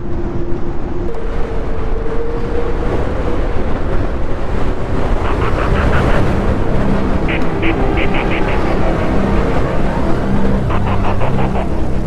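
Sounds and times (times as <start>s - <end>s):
heavy wind rumble: 0.0s - 12.0s.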